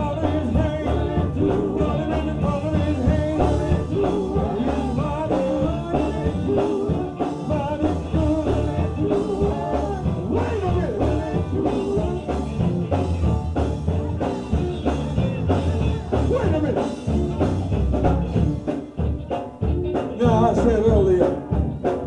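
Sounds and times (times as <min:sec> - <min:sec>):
gospel band playing: 0:00.0 - 0:22.0
heavy bass: 0:00.0 - 0:22.0
steady drum beat: 0:00.0 - 0:22.0.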